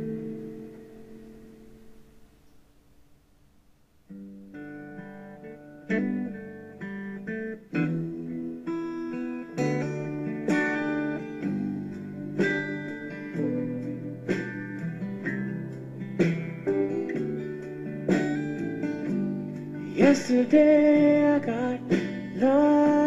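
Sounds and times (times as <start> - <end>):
strummed guitar chords: 0.0 - 2.4, 4.1 - 23.0.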